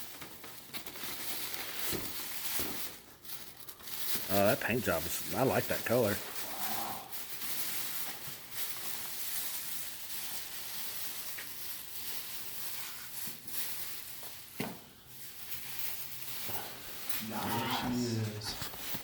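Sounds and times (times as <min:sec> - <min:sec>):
packaging rustling and crinkling: 0:00.0 - 0:19.0.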